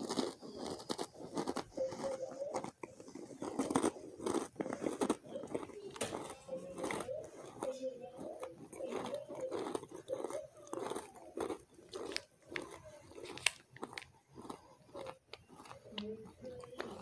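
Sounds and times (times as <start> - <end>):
chewing crunchy food: 0.0 - 17.0.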